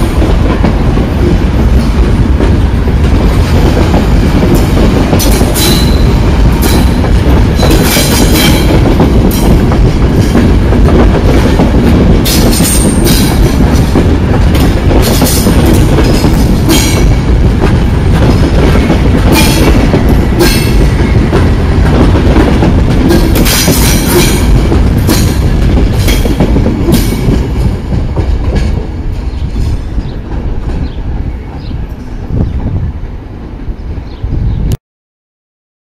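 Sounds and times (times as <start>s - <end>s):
train coaches rumbling past: 0.0s - 34.7s
wheels clattering over rail joints: 0.5s - 31.0s.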